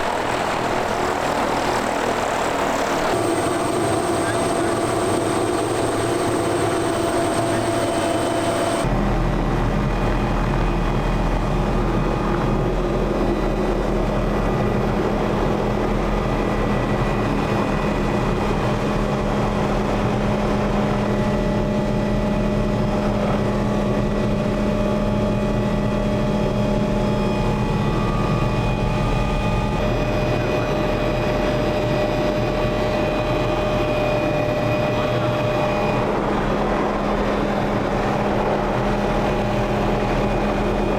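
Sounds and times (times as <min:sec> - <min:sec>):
held whining tones: 0:00.0 - 0:40.9.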